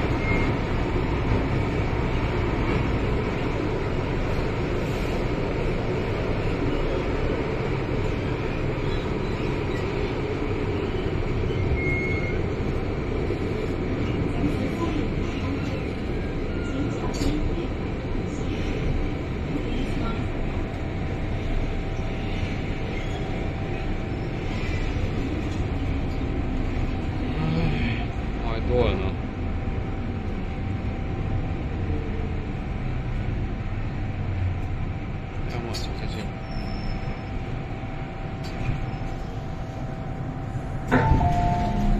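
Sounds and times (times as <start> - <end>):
train rumbling through tunnel: 0.0 - 41.9.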